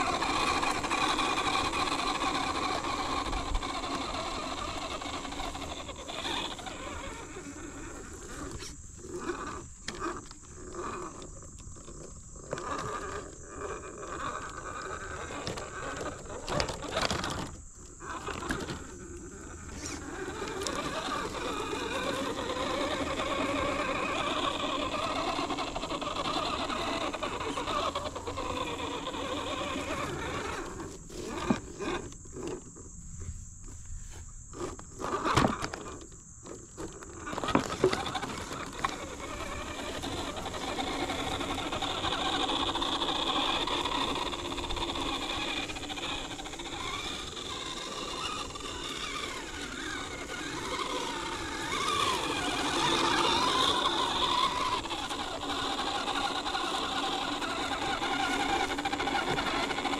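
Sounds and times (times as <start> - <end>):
electric motor and gears whining: 0.0 - 59.9.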